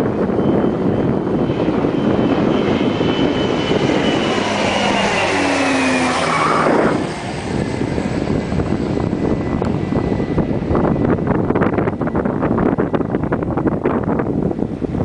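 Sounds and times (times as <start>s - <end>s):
airplane flying low overhead: 0.0s - 15.0s.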